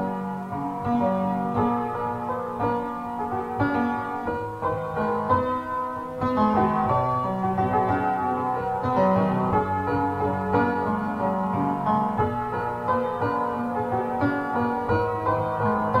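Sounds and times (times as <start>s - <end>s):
instrumental keyboard music: 0.0s - 16.0s.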